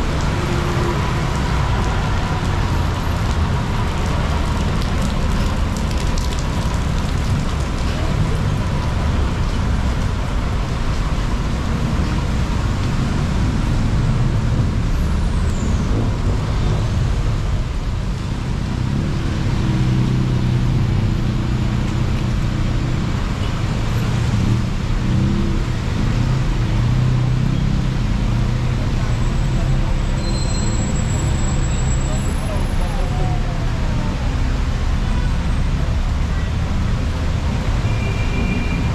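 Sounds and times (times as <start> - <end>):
road traffic on wet street: 0.0 - 38.9.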